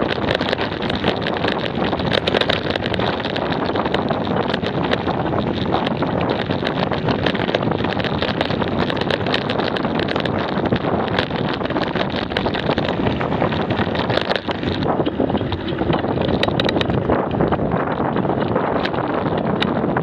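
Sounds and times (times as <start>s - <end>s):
bicycle rattles and ticks: 0.0s - 20.0s
tyres crunching on gravel: 0.0s - 20.0s
wind over microphone: 0.0s - 20.0s.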